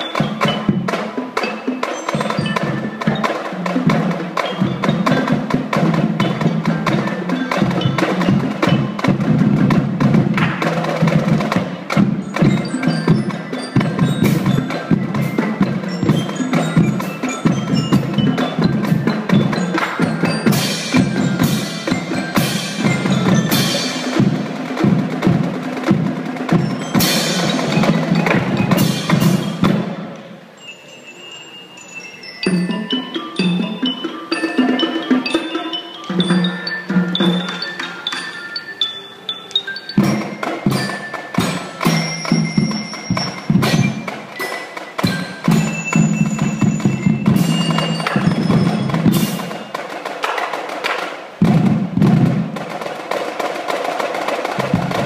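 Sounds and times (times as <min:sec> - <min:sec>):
drumline playing: 0:00.0 - 0:30.5, 0:32.4 - 0:38.8, 0:39.9 - 0:55.0.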